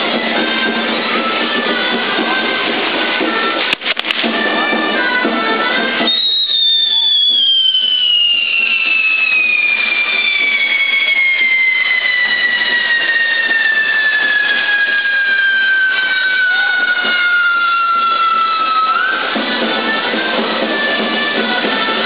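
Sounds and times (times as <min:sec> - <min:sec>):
firework whistle falling in pitch: 0:00.0 - 0:22.0
firework whistle rising: 0:00.0 - 0:22.0.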